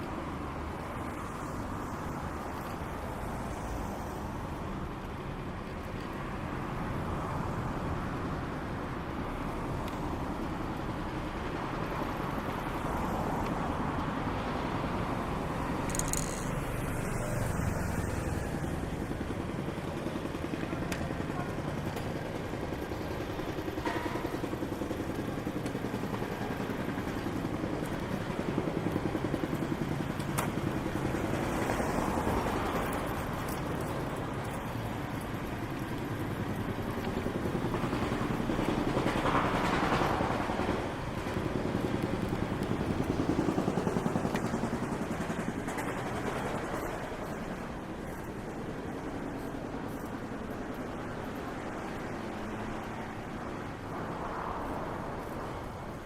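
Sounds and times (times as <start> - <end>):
road noise hum: 0.0 - 56.0
vehicles passing: 0.0 - 56.0.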